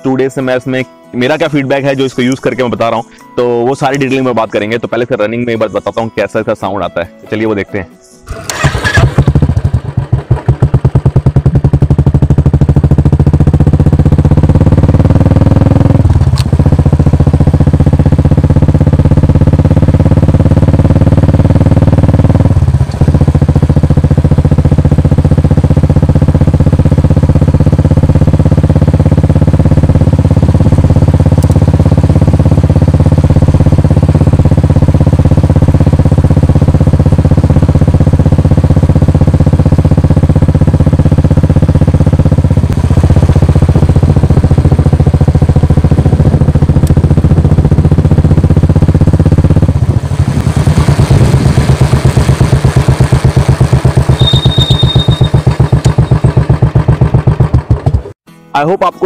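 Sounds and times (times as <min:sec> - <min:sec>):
motorcycle engine thumping: 0:08.3 - 0:58.2
motorcycle shifting gears: 0:08.3 - 0:58.2.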